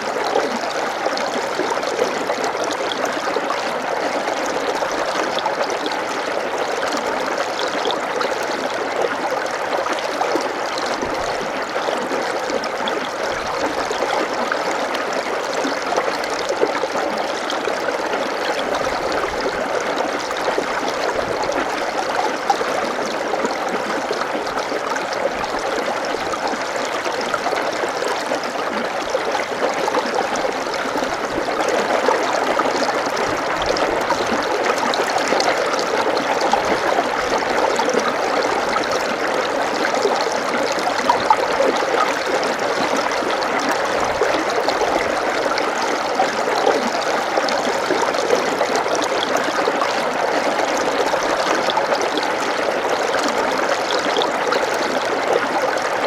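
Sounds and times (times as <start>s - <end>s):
running water babbling: 0.0s - 56.0s.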